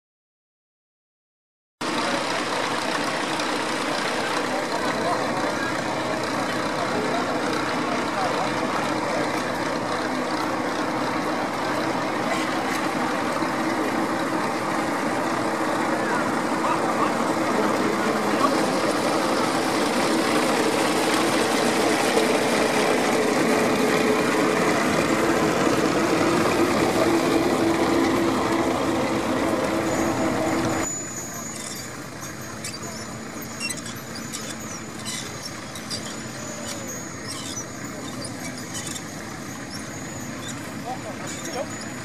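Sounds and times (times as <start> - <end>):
engine running: 1.8 - 42.0.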